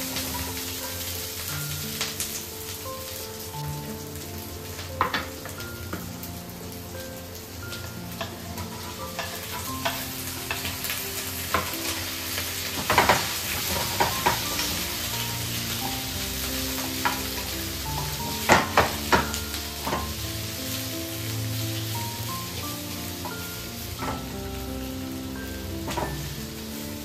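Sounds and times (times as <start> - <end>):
chicken sizzling in a pan: 0.0 - 27.0.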